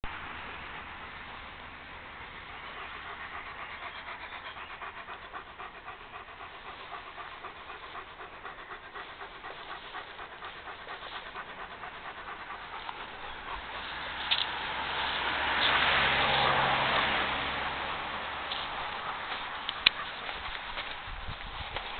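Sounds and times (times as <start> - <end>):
dog panting: 2.0 - 21.9.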